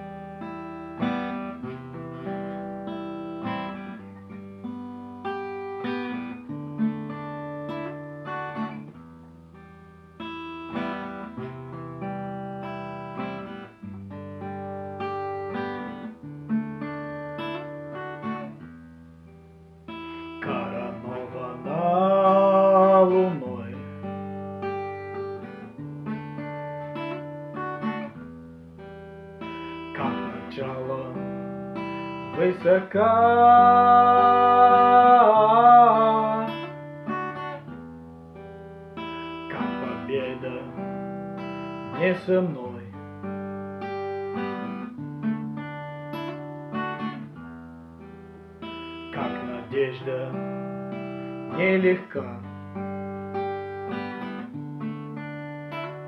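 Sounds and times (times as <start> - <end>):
acoustic guitar picking and strumming: 0.0 - 56.0.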